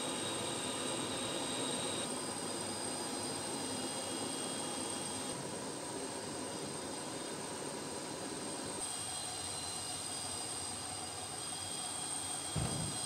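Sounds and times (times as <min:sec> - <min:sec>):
high-pitched turbine whine: 0:00.0 - 0:13.0.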